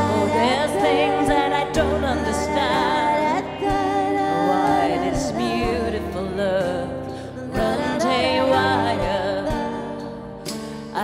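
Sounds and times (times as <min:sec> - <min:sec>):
woman singing slow melody: 0:00.0 - 0:11.0.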